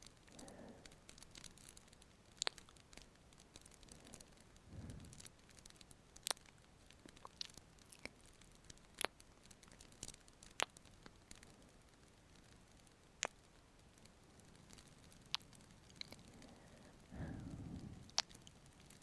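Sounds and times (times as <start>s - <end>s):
burning wood popping: 0.0s - 19.0s
fireplace hiss: 0.0s - 19.0s.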